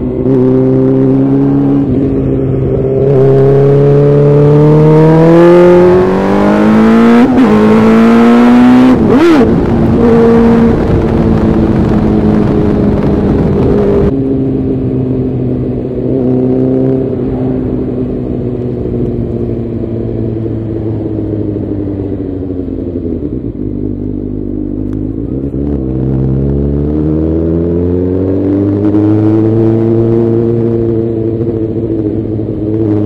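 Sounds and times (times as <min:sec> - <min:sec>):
motorcycle engine: 0:00.0 - 0:33.0.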